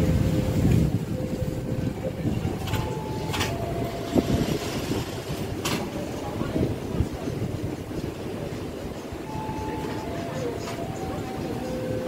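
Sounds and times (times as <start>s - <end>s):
train carriages rumbling past: 0.0s - 12.0s
wheels clicking over rails: 0.0s - 12.0s.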